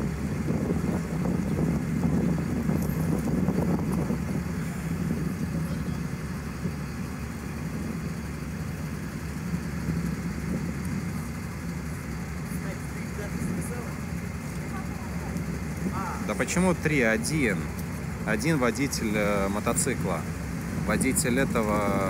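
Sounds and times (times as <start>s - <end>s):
road traffic rumble: 0.0s - 22.0s
vehicle engines idling: 0.0s - 22.0s.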